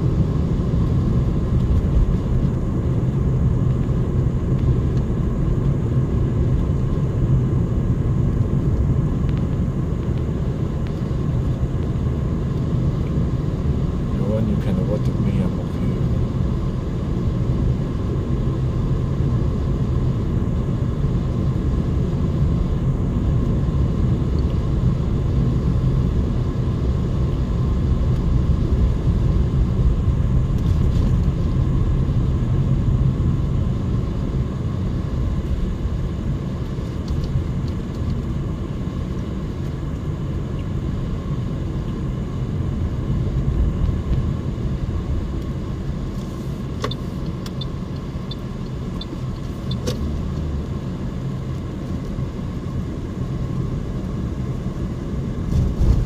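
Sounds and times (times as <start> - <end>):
car driving heard from inside: 0.0 - 56.0.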